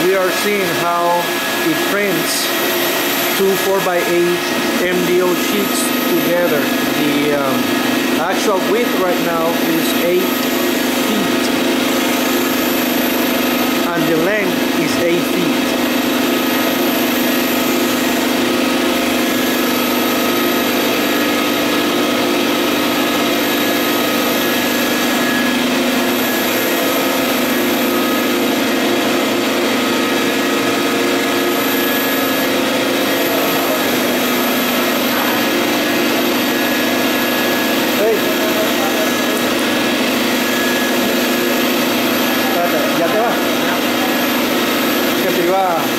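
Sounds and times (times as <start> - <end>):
printer hum and whine: 0.0 - 45.9.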